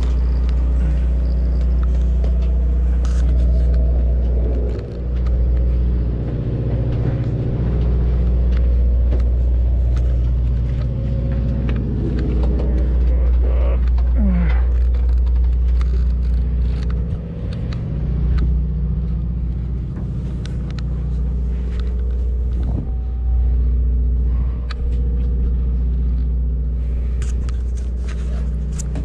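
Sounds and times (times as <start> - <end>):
boat diesel engine droning: 0.0 - 29.0.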